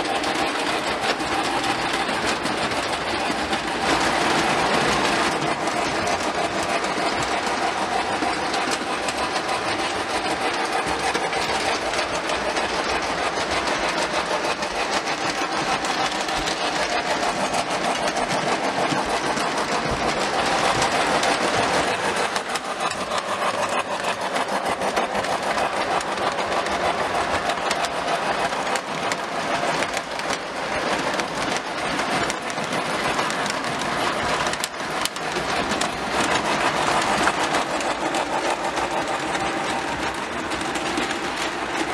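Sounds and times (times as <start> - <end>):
wheels rattling on rails: 0.0 - 41.9.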